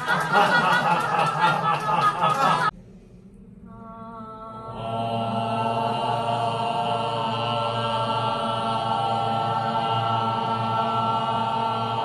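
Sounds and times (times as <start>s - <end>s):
sound therapy drone: 0.0s - 12.0s.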